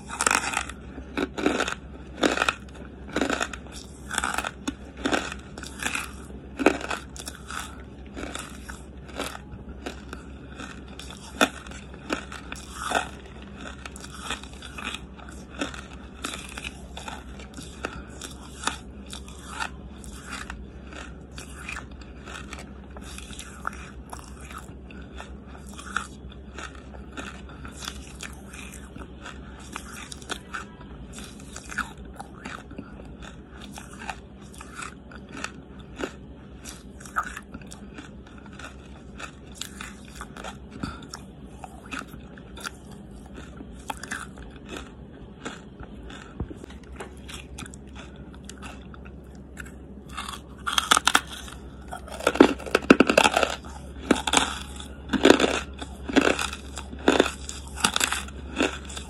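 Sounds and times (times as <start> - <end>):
person crunching charcoal: 0.0 - 59.0.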